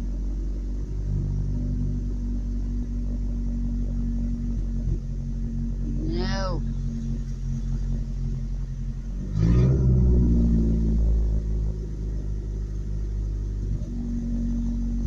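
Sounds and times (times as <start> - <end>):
truck engine idling and revving: 0.0 - 15.0.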